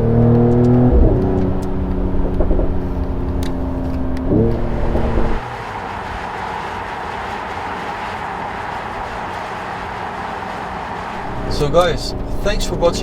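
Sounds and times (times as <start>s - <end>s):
car engine pulling under load: 0.0s - 13.0s
road and tyre noise: 0.0s - 13.0s.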